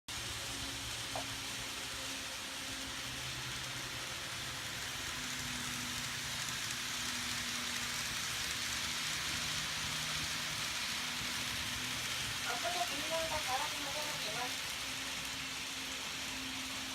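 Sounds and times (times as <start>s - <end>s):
faint low motor hum: 0.1s - 16.9s
model train rolling on track: 0.1s - 16.9s.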